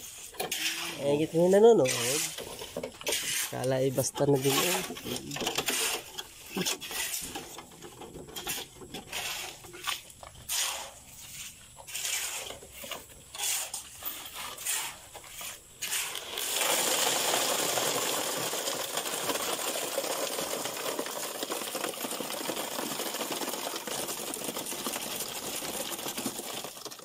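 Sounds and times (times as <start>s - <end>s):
scrapes: 0.0s - 21.9s
concrete pouring gritty rush: 0.0s - 27.0s.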